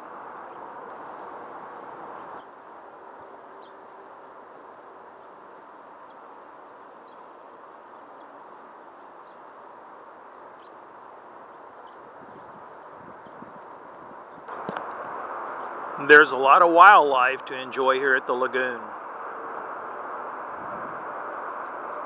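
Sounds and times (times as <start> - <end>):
rushing outdoor background noise: 0.0 - 22.0.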